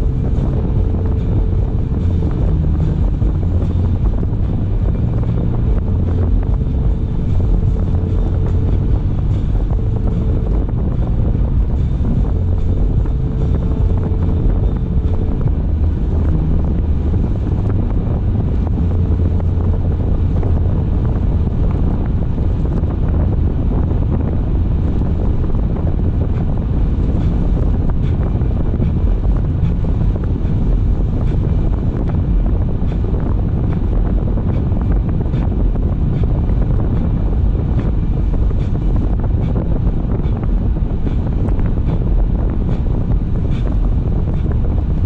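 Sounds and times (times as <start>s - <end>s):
car road noise rumble: 0.0s - 45.0s
wind on microphone: 0.0s - 45.0s.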